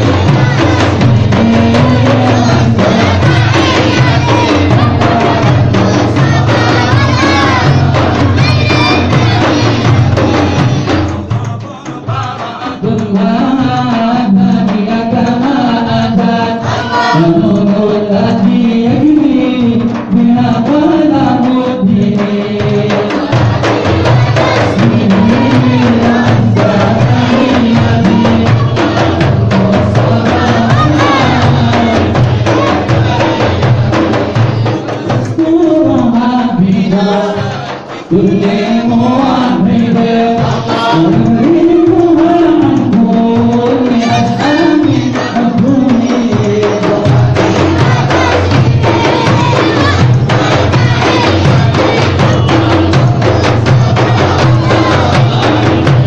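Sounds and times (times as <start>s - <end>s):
frame drums beating: 0.0s - 56.0s
men singing: 0.0s - 56.0s.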